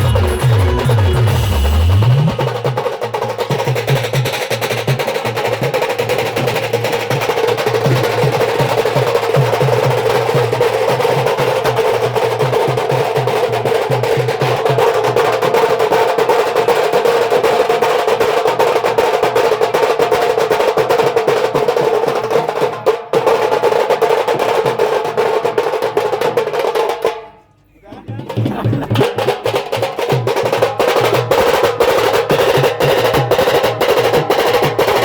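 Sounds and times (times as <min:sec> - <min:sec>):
drums playing rapid rolls: 0:00.0 - 0:35.0.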